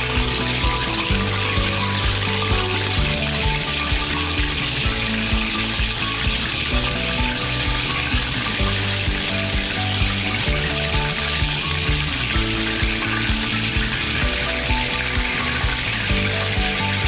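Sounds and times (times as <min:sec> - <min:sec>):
hot oil sizzling: 0:00.0 - 0:17.0
instrumental music with beat: 0:00.0 - 0:17.0.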